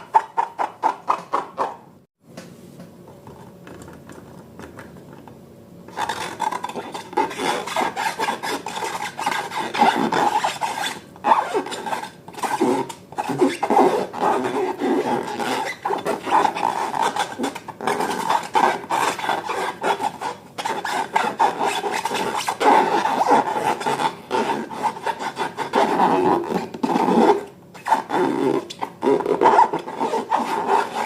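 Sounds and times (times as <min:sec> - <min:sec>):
slime being stirred by hand: 0:05.9 - 0:31.0.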